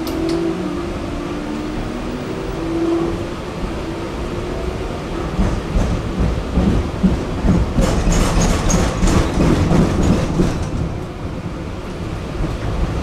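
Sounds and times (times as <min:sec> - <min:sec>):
tram rumbling on rails: 0:00.0 - 0:13.0
wheels clattering on track: 0:01.6 - 0:13.0.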